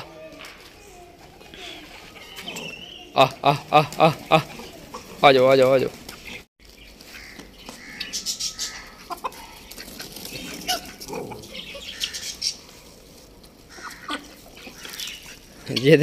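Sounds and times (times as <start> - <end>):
birds calling and chirping: 0.0 - 16.0.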